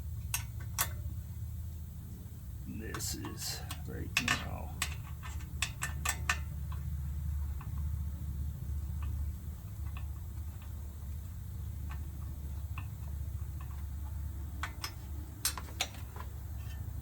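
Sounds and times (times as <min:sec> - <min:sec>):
steady low hum: 0:00.0 - 0:14.8
brake rotor ticking against pad: 0:00.1 - 0:17.0.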